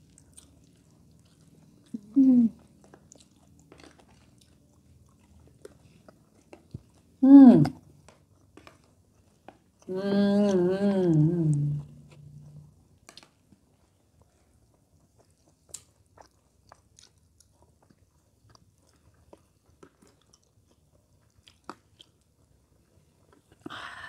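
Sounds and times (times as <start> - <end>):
chewing food: 0.0 - 23.7.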